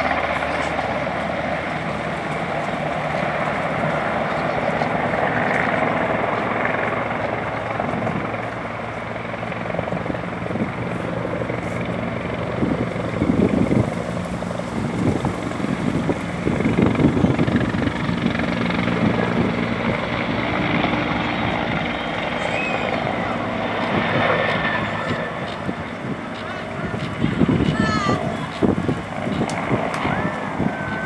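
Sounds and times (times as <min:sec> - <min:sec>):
helicopter rotor and turbine: 0:00.0 - 0:31.0.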